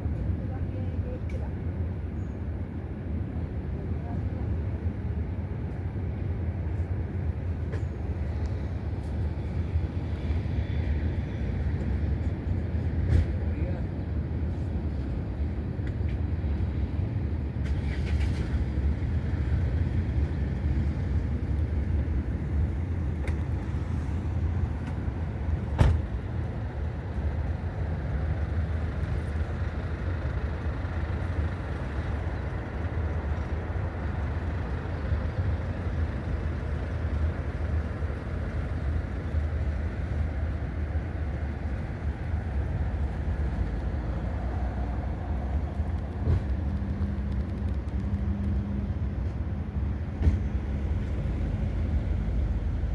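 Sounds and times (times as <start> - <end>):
low outdoor background rumble: 0.0 - 52.9.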